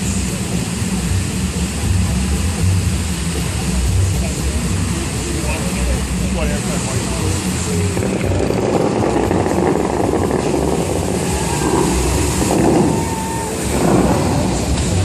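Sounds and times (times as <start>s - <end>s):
fountain water rushing and splashing: 0.0s - 15.0s.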